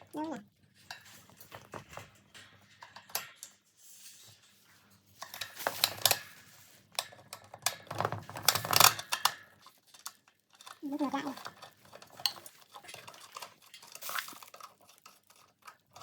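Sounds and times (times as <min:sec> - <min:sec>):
plastic parts clicking and clattering: 0:00.0 - 0:16.0.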